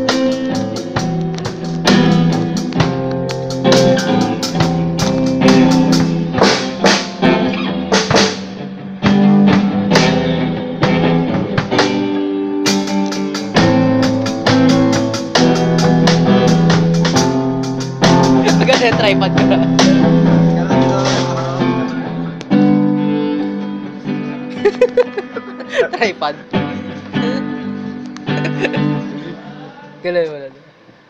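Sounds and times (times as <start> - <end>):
drum kit: 0.0 - 29.3
guitar chords and notes: 0.0 - 30.4.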